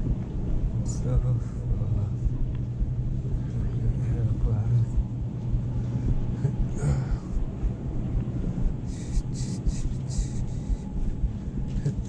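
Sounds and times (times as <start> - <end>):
low rumble of walking movement: 0.0 - 12.0.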